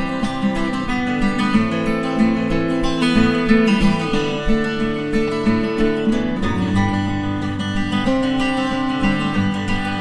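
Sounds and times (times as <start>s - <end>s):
acoustic guitar playing chords: 0.0s - 10.0s.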